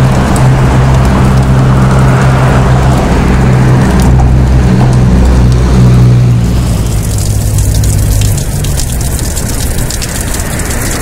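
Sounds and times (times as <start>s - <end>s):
water drops pattering: 0.0s - 5.7s, 6.8s - 11.0s.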